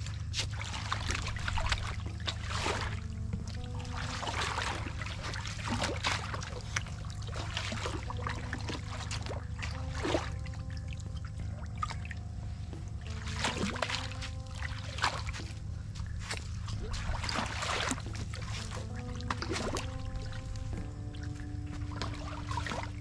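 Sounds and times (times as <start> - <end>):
wading through muddy water: 0.0 - 23.0.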